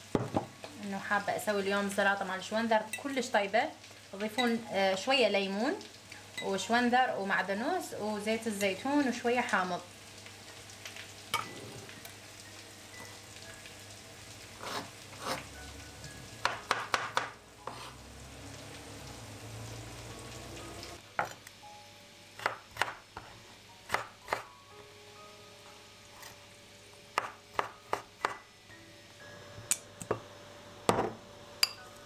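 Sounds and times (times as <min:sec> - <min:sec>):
food sizzling in a pan: 0:00.0 - 0:32.0.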